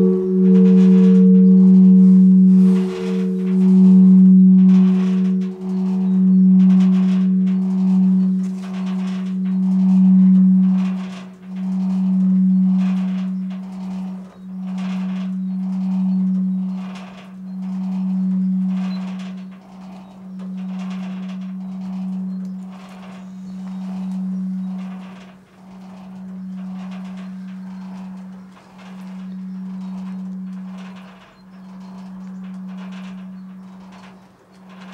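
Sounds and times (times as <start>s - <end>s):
church bell ringing: 0.0s - 34.9s.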